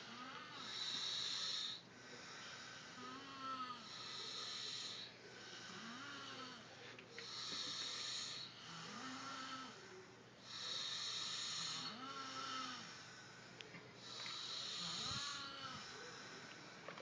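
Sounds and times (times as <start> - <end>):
low pitched snore: 0.0 - 16.6
hissing breath: 0.0 - 16.9.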